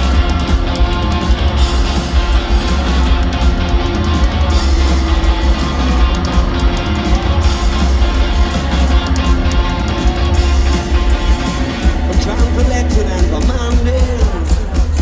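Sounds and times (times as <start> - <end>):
drum kit: 0.0 - 15.0
electric guitars: 0.0 - 15.0
heavy bass: 0.0 - 15.0
rock band playing live: 0.0 - 15.0.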